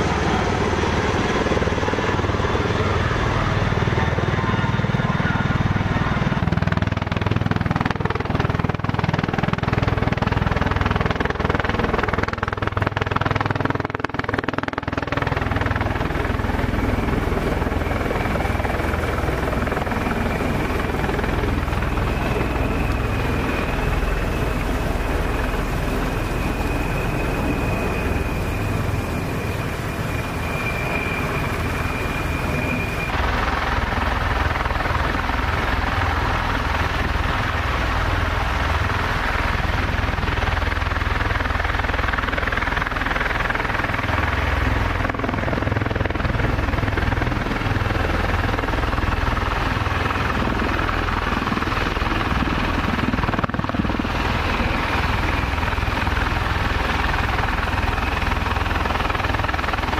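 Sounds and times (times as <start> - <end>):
aircraft rotor rumble: 0.0 - 59.9
high turbine whine: 0.0 - 59.9.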